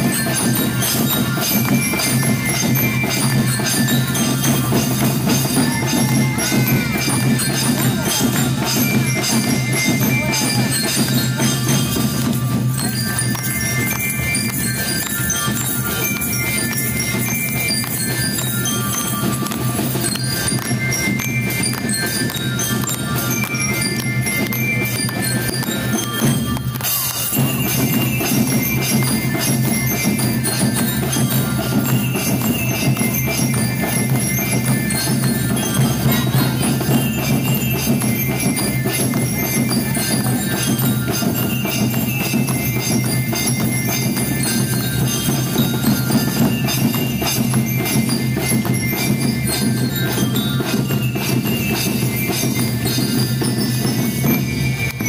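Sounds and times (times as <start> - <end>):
bell lyres melody: 0.0 - 55.0
drums beating: 0.0 - 55.0.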